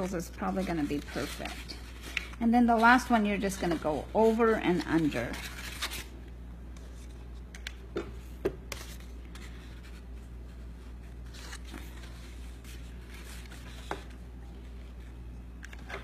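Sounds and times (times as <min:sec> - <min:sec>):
paper rustling and scraping: 0:00.0 - 0:06.1, 0:08.7 - 0:16.0.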